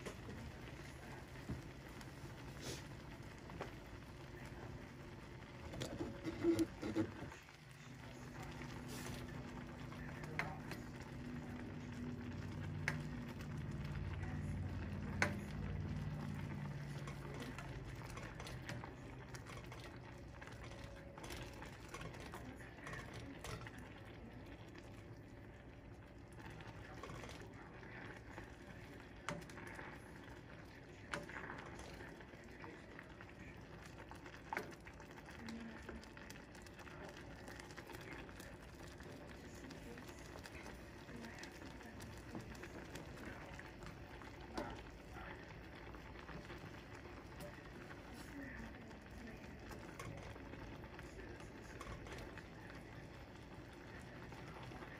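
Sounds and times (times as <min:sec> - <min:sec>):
water boiling and bubbling: 0:00.0 - 0:54.9.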